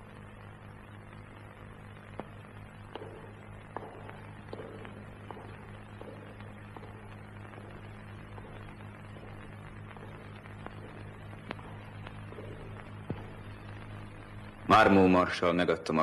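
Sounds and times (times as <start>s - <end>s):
faint hiss: 0.0s - 16.0s
low mains hum: 0.0s - 16.0s.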